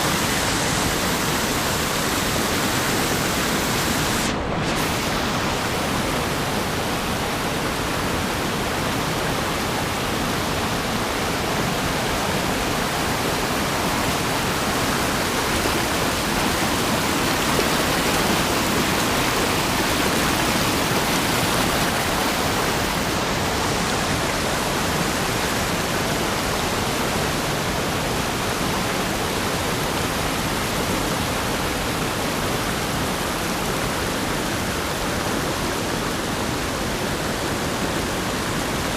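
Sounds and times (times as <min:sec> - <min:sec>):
muffled river water rushing: 0:00.0 - 0:38.9.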